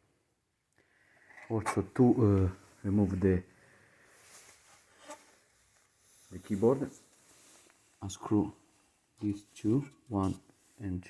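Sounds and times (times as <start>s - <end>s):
faint rustle: 1.5s - 10.9s.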